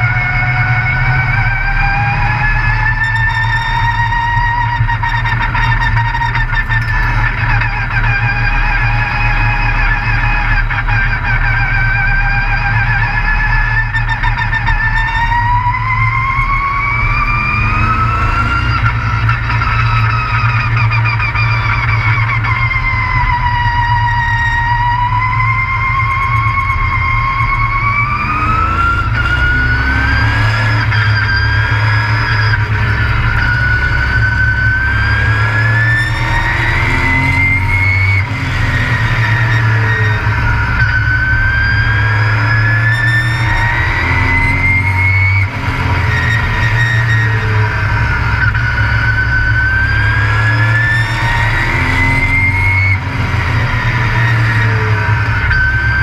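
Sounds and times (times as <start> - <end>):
high engine whine: 0.0 - 56.0
truck engine accelerating: 0.0 - 56.0.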